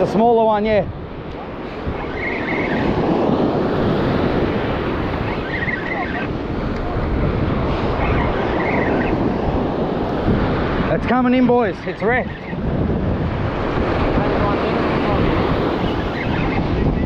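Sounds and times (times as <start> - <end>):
ocean surf on rocks: 0.0 - 17.0
wind buffeting microphone: 0.0 - 17.0.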